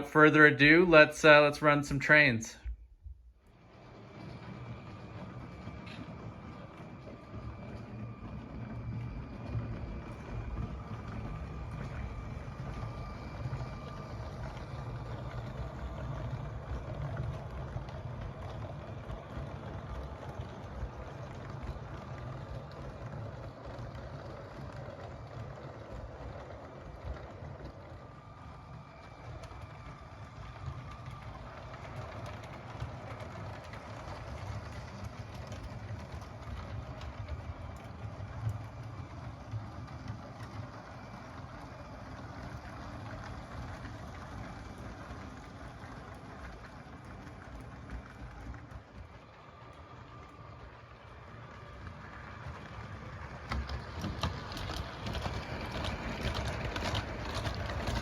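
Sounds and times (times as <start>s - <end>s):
toy train motor rumbling: 3.4s - 58.0s.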